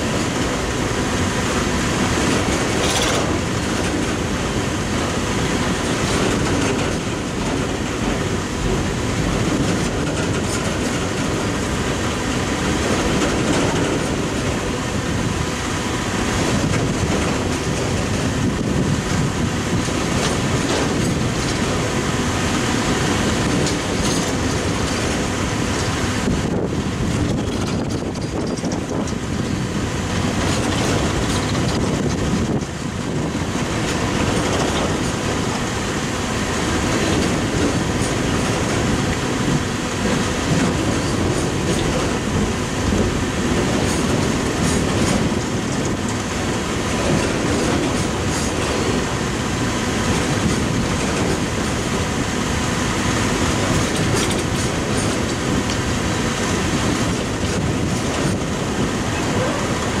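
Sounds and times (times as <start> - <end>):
clickety-clack over rail joints: 0.0 - 60.0
train cars rolling on rails: 0.0 - 60.0.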